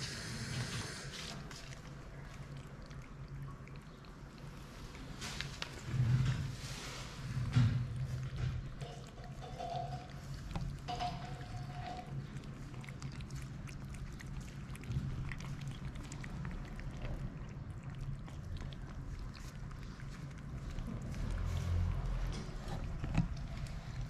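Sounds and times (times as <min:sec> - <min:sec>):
cats chewing and lapping: 0:00.0 - 0:24.0.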